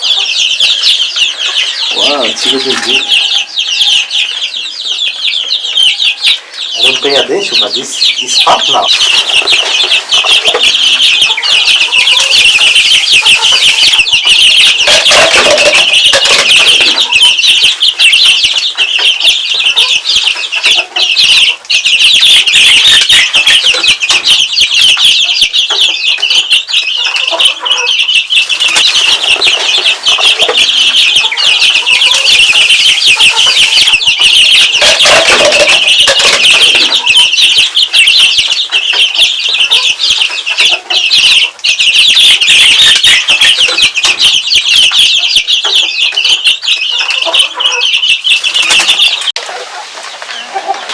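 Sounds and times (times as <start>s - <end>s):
chickens clucking: 0.0s - 50.9s.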